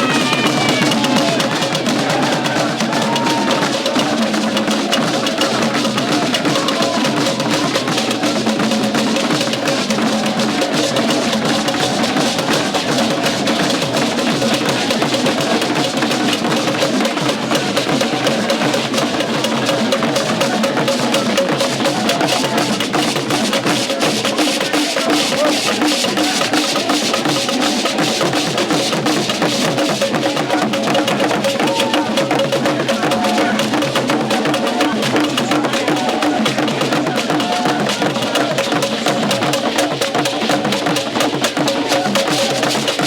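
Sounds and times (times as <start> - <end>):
drums playing quick pattern: 0.0 - 43.0.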